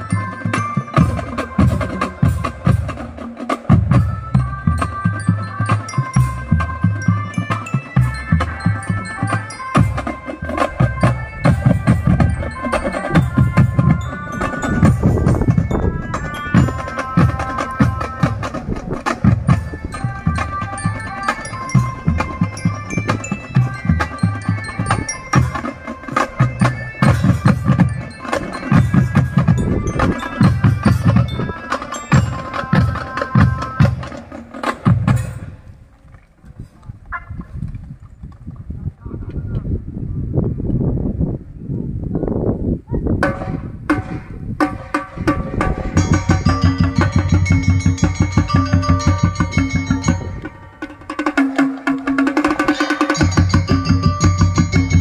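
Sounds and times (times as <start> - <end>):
mallet percussion melody: 0.0 - 35.6, 43.2 - 55.0
marching drums: 0.0 - 35.6, 43.2 - 55.0.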